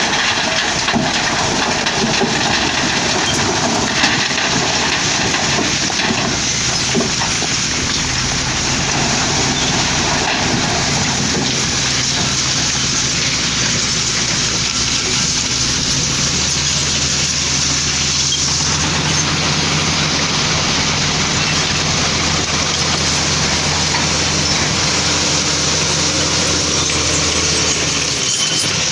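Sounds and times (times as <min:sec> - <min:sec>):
heavy diesel machinery working: 0:00.0 - 0:28.9.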